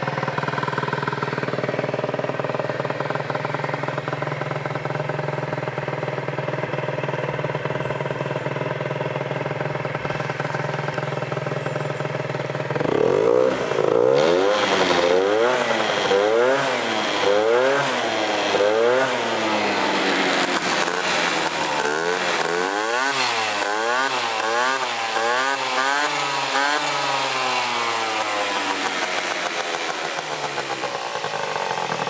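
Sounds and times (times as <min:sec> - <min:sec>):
moped engine idling and revving: 0:00.0 - 0:32.0.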